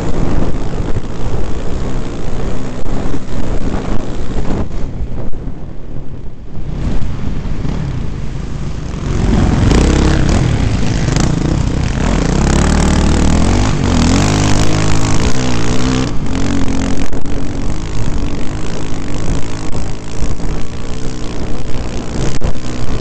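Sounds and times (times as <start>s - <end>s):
dirt bike engine revving: 0.0s - 4.8s, 7.6s - 23.0s.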